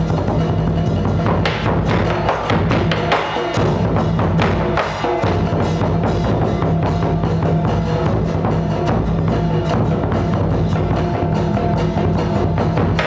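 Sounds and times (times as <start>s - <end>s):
drum and wood-block strikes: 0.0s - 13.0s.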